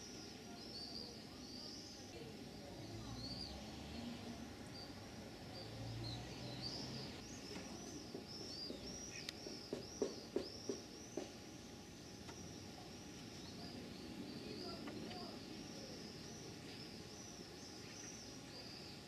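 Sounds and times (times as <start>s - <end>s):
small birds twittering: 0.0s - 19.0s.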